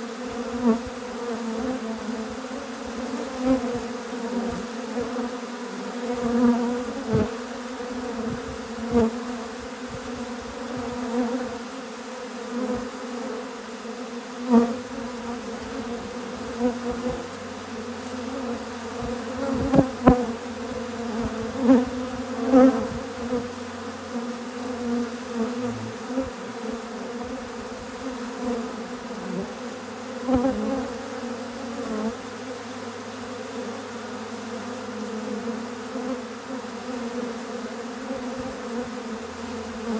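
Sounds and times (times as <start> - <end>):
honeybees buzzing: 0.0 - 39.9
single bee buzzing close: 0.0 - 39.9.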